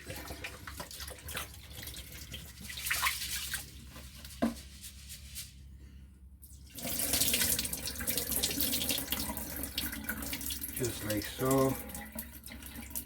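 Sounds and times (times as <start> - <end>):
rice being rinsed in water: 0.0 - 5.2, 6.7 - 13.0.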